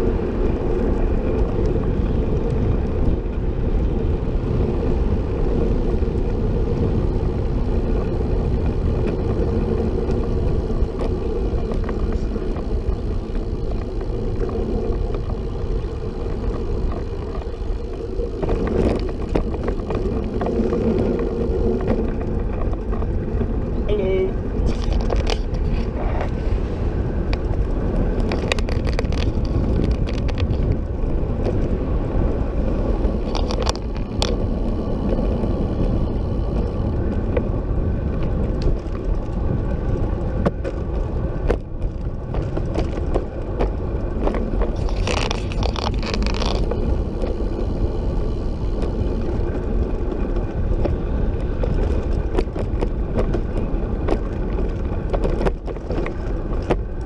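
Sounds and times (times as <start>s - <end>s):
trike tyres rumbling on pavement: 0.0s - 57.0s
small clicks and rattles: 4.6s - 26.4s, 27.3s - 31.8s, 32.8s - 57.0s.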